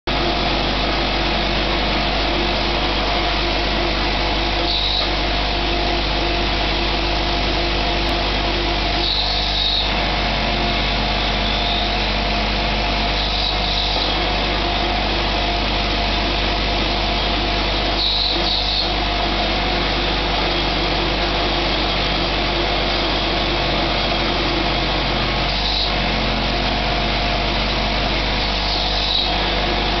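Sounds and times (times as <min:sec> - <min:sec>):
milling machine spindle motor: 0:00.1 - 0:30.0
stepper-driven table milling: 0:00.1 - 0:30.0.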